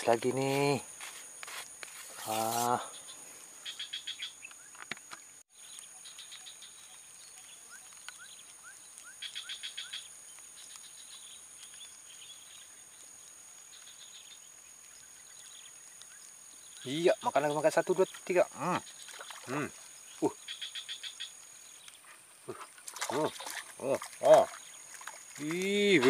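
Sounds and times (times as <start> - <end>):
insects rapid pulsed chirping: 0.0 - 5.4, 6.0 - 26.0.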